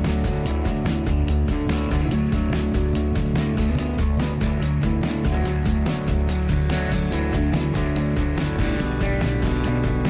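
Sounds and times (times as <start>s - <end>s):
drum beat: 0.0s - 10.0s
sustained bass notes: 0.0s - 10.0s.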